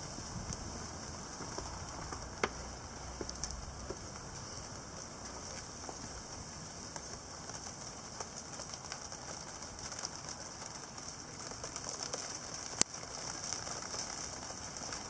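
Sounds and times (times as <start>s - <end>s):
rain hiss: 0.0s - 15.0s
raindrops pattering on hard surface: 0.0s - 15.0s.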